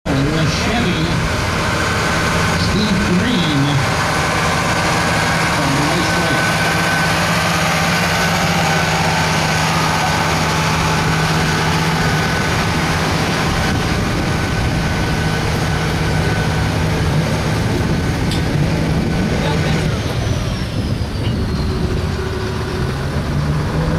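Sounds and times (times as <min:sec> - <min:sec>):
truck engine running under load: 0:00.1 - 0:23.9.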